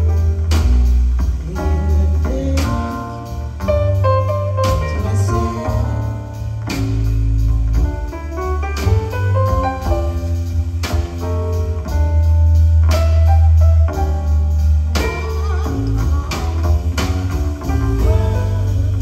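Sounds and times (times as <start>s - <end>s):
double bass: 0.0s - 19.0s
drums: 0.0s - 19.0s
jazz quartet playing: 0.0s - 19.0s
piano: 0.0s - 19.0s.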